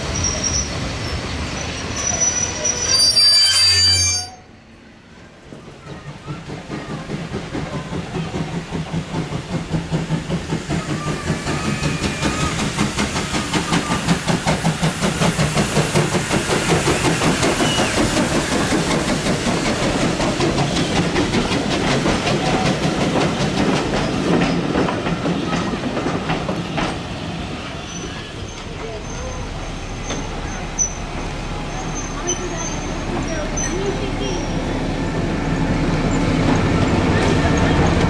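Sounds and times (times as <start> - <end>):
steam locomotive chuffing: 5.2 - 38.0
steam hissing: 6.0 - 38.0.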